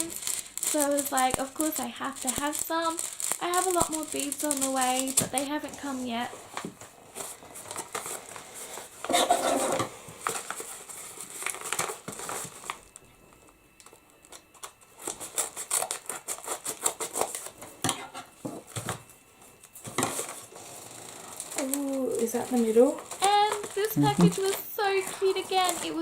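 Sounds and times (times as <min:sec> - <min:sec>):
packaging crinkling: 0:00.0 - 0:17.6, 0:19.6 - 0:26.0.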